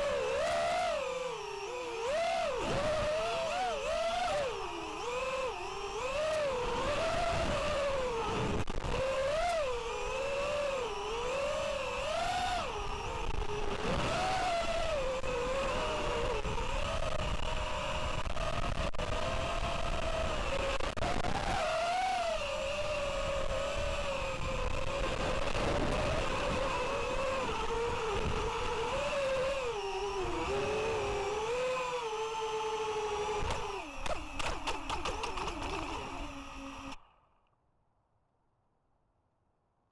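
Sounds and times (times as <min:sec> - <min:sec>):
drone motors whining: 0:00.0 - 0:37.4.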